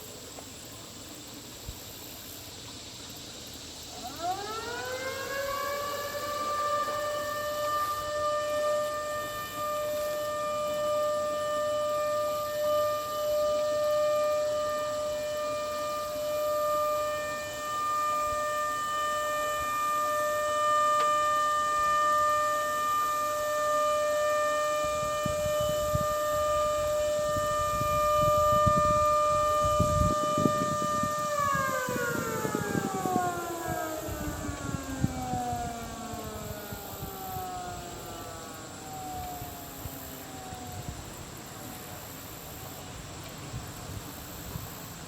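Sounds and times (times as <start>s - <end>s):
tornado siren winding down: 4.0s - 42.8s.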